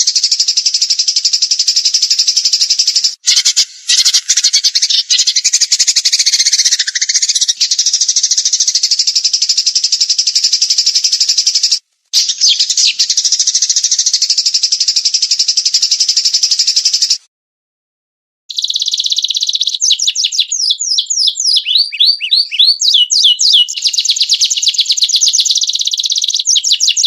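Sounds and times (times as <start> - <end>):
songbird buzzy trill: 0.0 - 17.2, 18.5 - 27.0.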